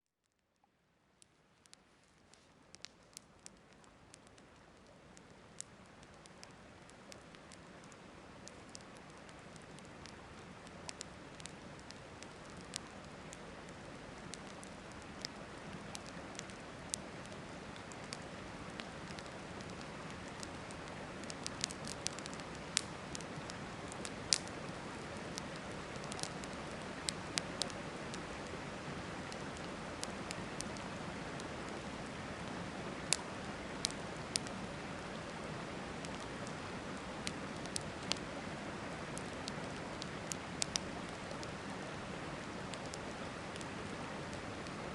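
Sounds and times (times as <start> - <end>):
campfire crackling and popping: 0.4 - 44.9.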